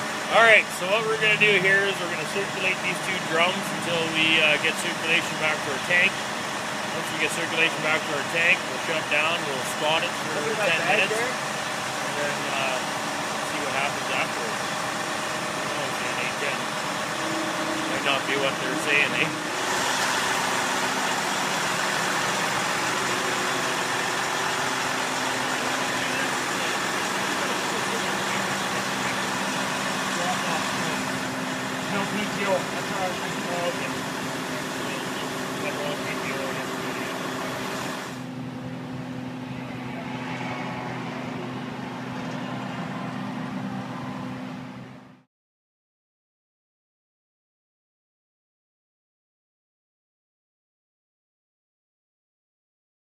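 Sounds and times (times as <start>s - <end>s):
truck engine running: 0.0s - 45.3s.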